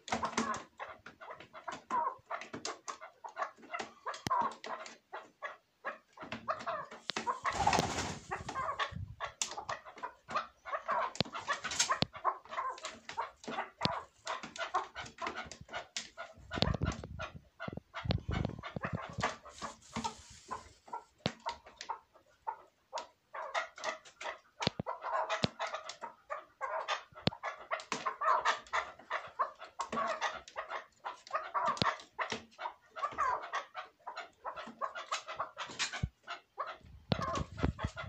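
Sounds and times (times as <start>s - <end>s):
partridge clucking calls: 0.0s - 38.0s.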